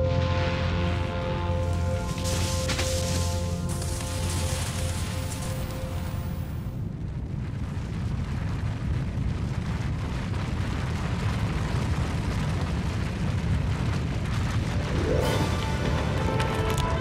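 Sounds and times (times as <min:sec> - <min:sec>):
snow avalanche rumbling: 0:00.0 - 0:17.0.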